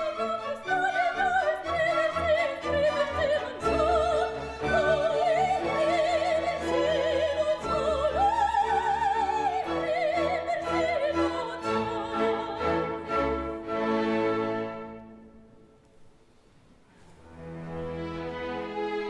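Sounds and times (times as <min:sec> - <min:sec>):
orchestral accompaniment: 0:00.0 - 0:15.6, 0:17.1 - 0:19.0.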